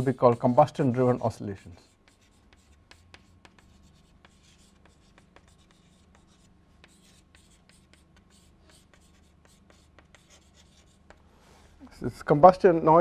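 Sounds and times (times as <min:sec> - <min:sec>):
chalk tapping and scratching: 0:00.0 - 0:11.2.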